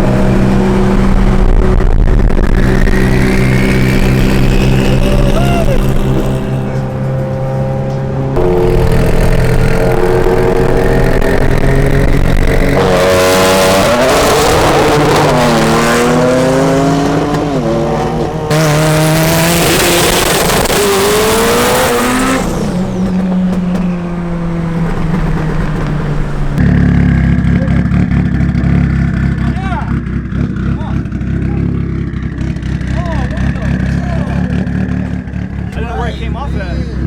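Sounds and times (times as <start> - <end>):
rushing wind and exhaust: 0.0 - 31.2
car engines accelerating hard: 0.0 - 37.0.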